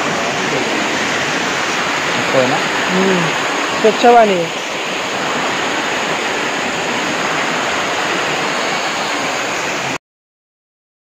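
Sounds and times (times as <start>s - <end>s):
stream rushing over rocks: 0.0s - 10.0s.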